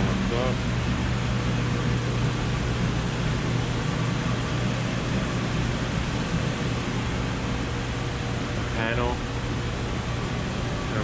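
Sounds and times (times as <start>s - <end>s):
mechanical equipment humming: 0.0s - 11.0s.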